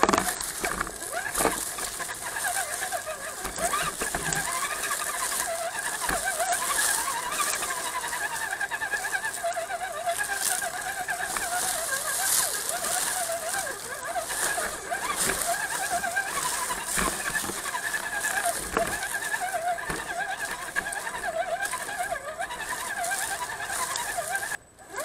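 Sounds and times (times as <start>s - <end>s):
electric motor and gears whining: 0.0s - 25.0s
toy truck bumping over rocks: 0.0s - 25.0s.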